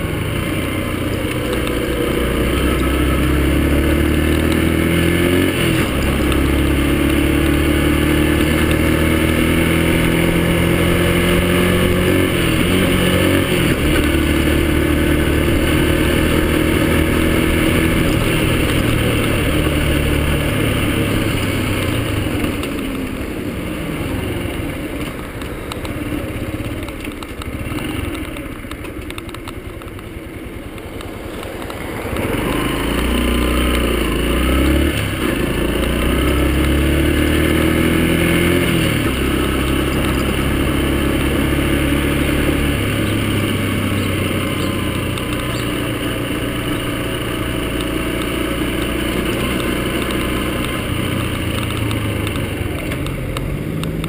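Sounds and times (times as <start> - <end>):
motorcycle engine shifting up: 0.0 - 54.0.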